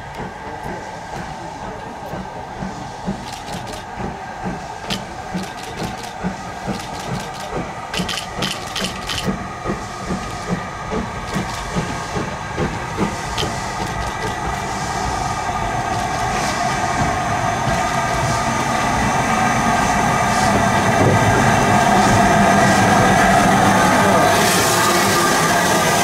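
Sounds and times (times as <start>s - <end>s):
steam train chuffing beat: 0.0s - 26.0s
train rumble and hiss: 0.0s - 26.0s.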